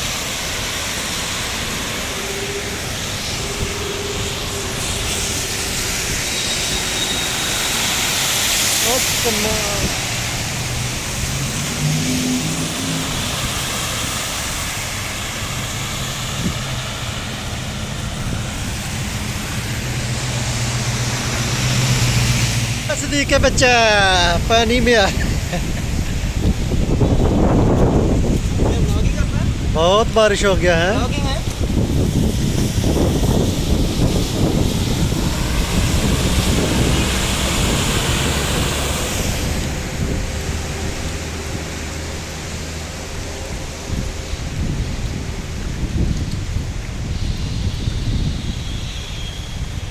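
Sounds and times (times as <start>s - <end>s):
low engine hum: 0.0s - 29.8s, 31.1s - 48.8s
heavy rain falling: 0.0s - 49.9s
tyres on wet road: 0.0s - 49.9s
wind buffeting microphone: 0.0s - 49.9s.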